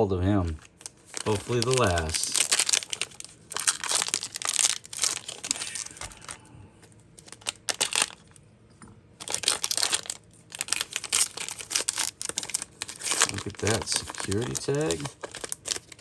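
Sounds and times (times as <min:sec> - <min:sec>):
wrapper crinkling: 0:00.5 - 0:06.4, 0:07.1 - 0:08.4, 0:09.2 - 0:16.0.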